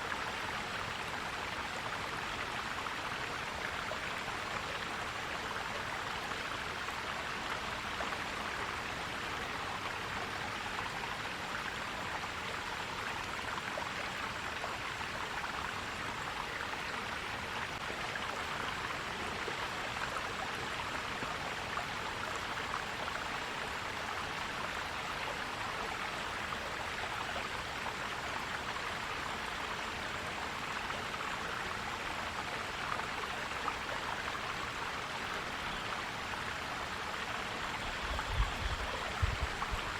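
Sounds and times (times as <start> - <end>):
forest stream gurgling: 0.0 - 39.9.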